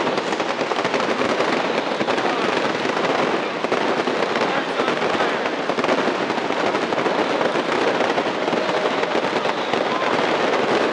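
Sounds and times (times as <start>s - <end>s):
firecrackers crackling: 0.0s - 10.9s.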